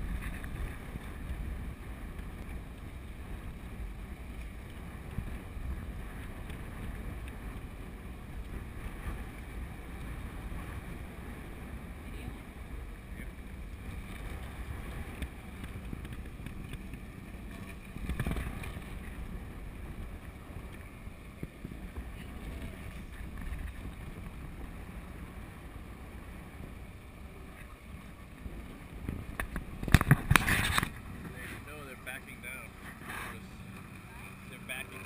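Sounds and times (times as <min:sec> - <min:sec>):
water rushing along hull: 0:00.0 - 0:35.0
wind buffeting microphone: 0:00.0 - 0:35.0.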